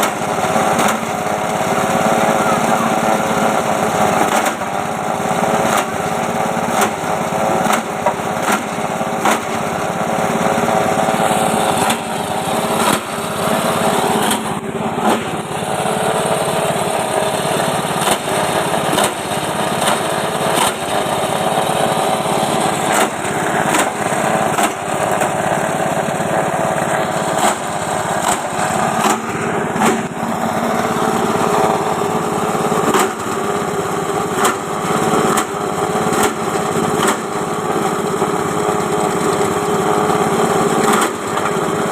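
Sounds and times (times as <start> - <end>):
chopper machine running: 0.0 - 41.9.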